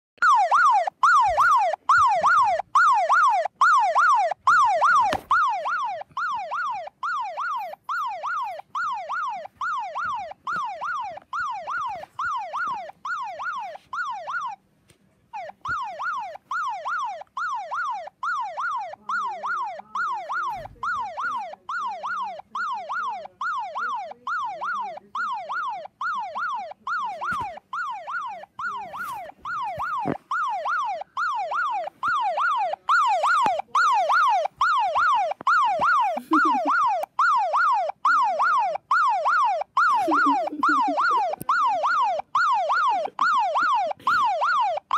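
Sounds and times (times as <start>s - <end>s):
police siren from phone speaker: 0.2s - 14.6s, 15.3s - 44.9s.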